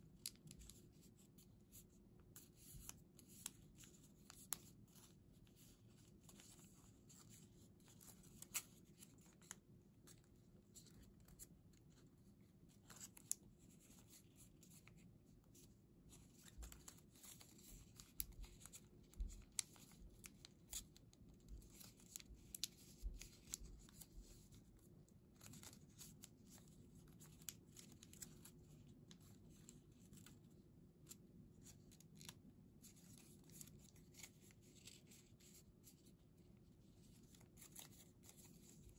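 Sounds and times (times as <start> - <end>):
paper crinkling being folded: 0.2 - 38.9.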